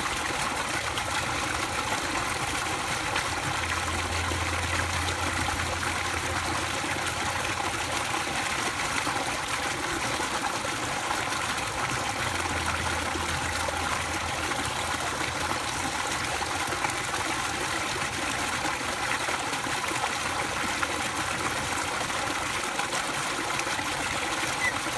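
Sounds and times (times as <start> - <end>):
water pouring into a pool: 0.0 - 24.9.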